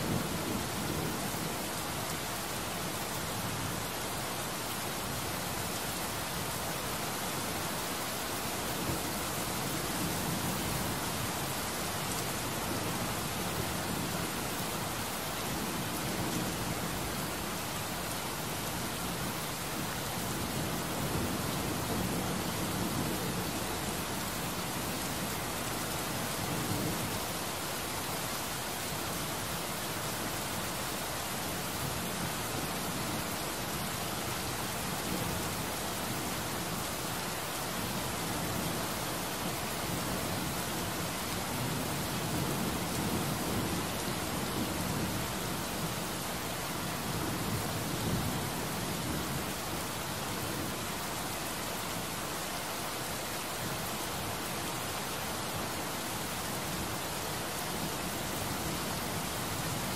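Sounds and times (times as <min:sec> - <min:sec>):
heavy rain on hard surface: 0:00.0 - 0:59.9.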